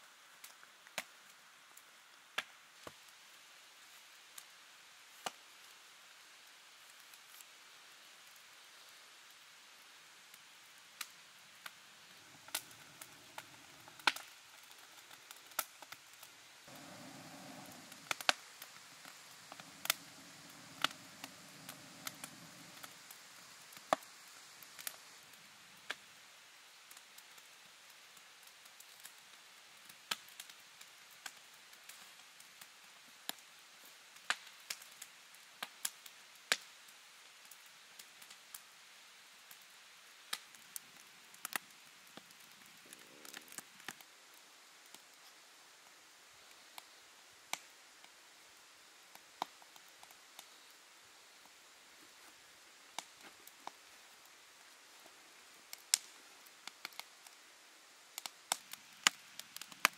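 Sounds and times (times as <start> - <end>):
wood fire crackling and popping: 0.4 - 3.5, 10.3 - 33.5, 34.2 - 38.7, 39.4 - 45.4, 46.4 - 50.8, 52.2 - 57.4, 58.1 - 59.9.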